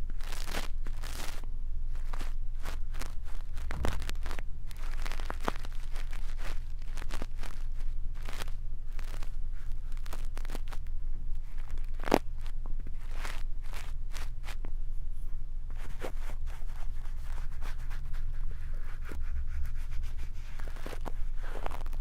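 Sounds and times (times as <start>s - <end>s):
brush scratching on microphone: 0.0s - 14.6s, 15.7s - 22.0s
steady low hum: 0.0s - 22.0s.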